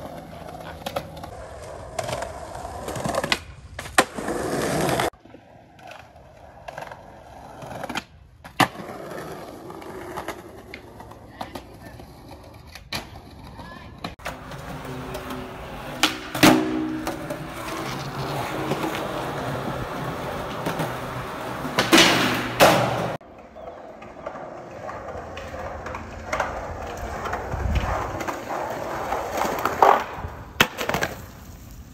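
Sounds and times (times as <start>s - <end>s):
skateboard wheels rolling on pavement: 0.0s - 31.9s
skateboard clacking on concrete: 0.1s - 31.3s.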